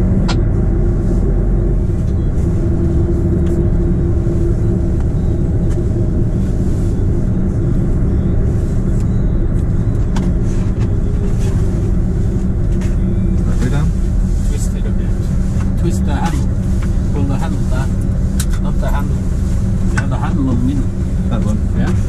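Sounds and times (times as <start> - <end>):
truck diesel engine rumbling: 0.0 - 22.0.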